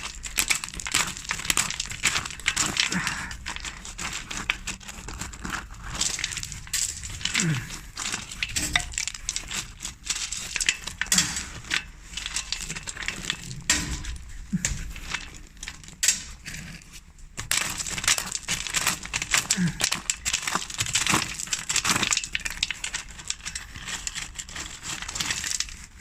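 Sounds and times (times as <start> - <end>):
concrete rubble crunching and clinking: 0.0 - 26.0.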